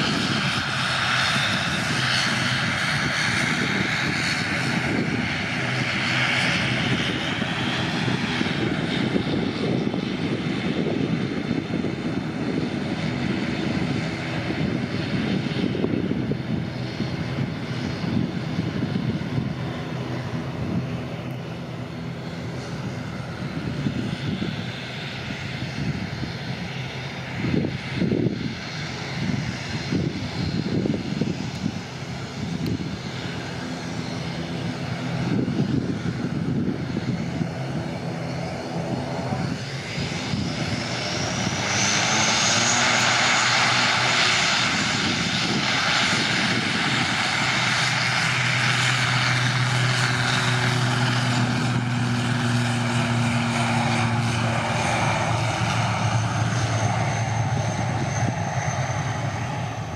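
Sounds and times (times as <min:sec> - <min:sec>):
engine and propeller drone: 0:00.0 - 0:59.9
rising engine whine: 0:00.0 - 0:59.9
turboprop engines spooling up: 0:00.0 - 0:59.9.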